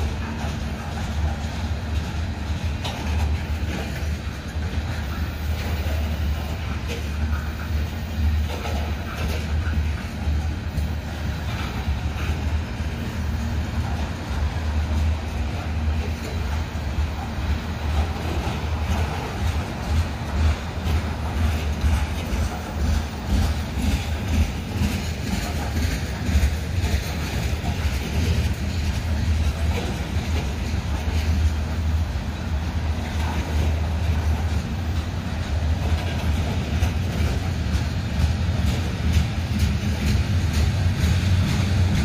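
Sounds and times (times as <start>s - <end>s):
clicks and knocks of train cars: 0.0s - 42.0s
steel wheels rumbling on rail: 0.0s - 42.0s.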